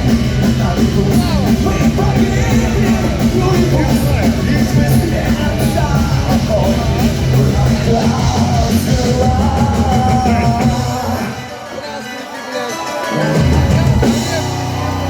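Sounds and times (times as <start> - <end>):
person singing: 0.0 - 14.2
heavy metal band playing: 0.0 - 15.0.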